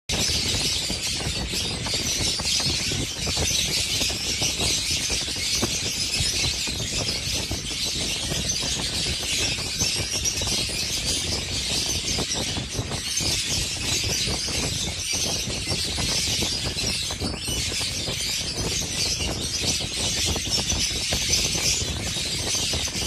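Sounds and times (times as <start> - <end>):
lovebirds chattering and screeching: 0.1 - 23.0.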